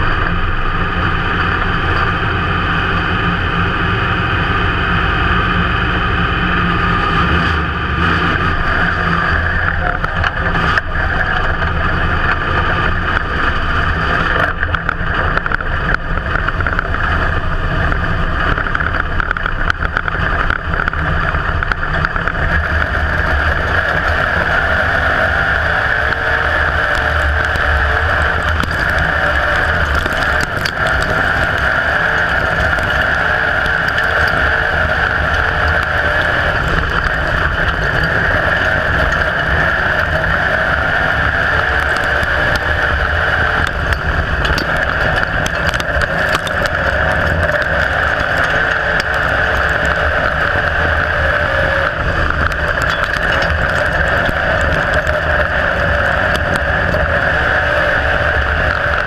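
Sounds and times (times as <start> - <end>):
race car engine droning: 0.0 - 59.0.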